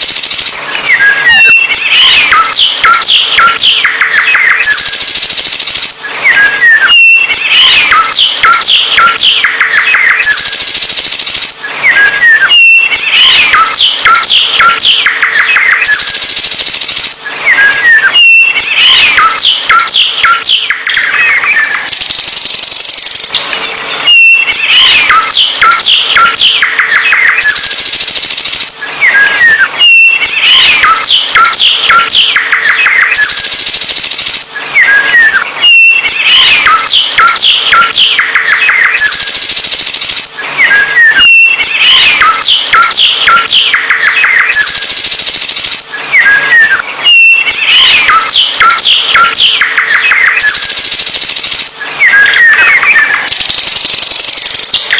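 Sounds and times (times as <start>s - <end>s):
songbird singing: 0.0s - 33.5s, 34.3s - 39.2s, 40.2s - 44.8s, 45.8s - 50.8s.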